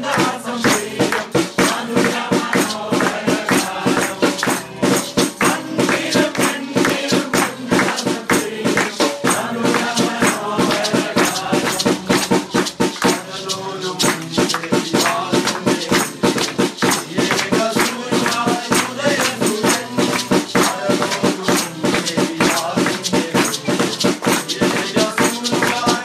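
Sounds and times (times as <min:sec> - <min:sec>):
group singing a carol: 0:00.0 - 0:26.0
maracas shaking: 0:00.0 - 0:26.0
strummed acoustic guitar: 0:00.0 - 0:26.0.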